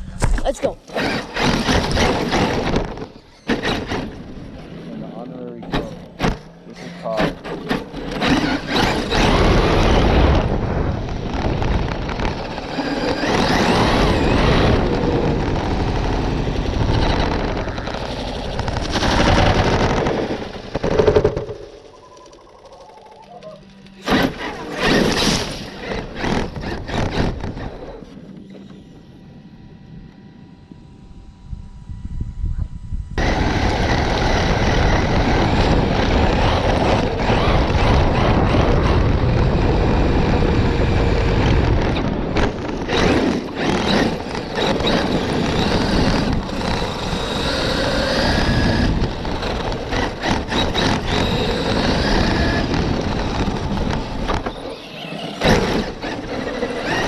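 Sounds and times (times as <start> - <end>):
tyre and wind noise: 0.0 - 4.9, 7.2 - 21.8, 24.0 - 28.5, 30.8 - 57.0
whining electric motor: 0.8 - 57.0.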